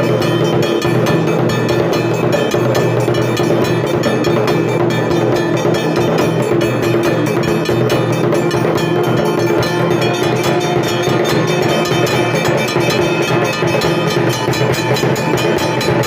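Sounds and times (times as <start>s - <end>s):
steady held tone: 0.0s - 16.0s
temple bells clanging rapidly: 0.0s - 16.0s.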